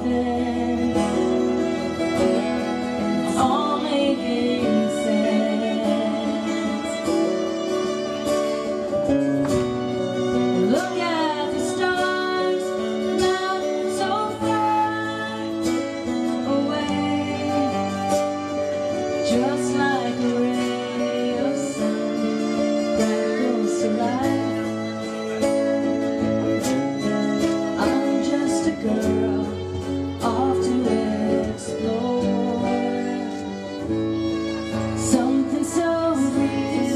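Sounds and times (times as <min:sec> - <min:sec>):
acoustic guitar playing: 0:00.0 - 0:36.9
fiddle melody: 0:00.0 - 0:36.9.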